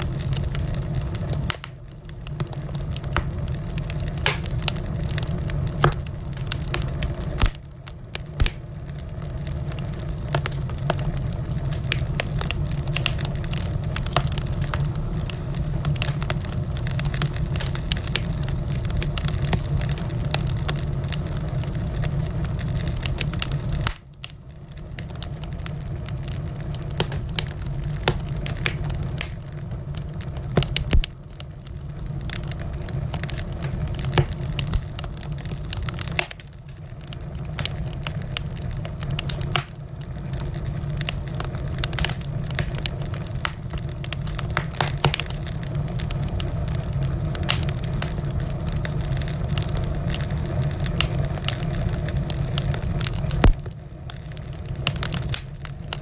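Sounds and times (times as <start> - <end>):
low rumble of fire: 0.0 - 56.0
wood fire crackling and popping: 0.0 - 56.0.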